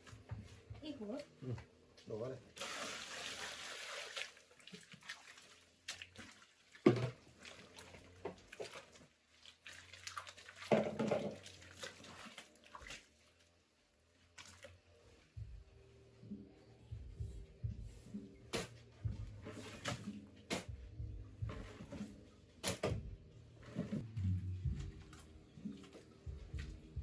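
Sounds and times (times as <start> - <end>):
hands and containers in water: 2.5 - 27.0.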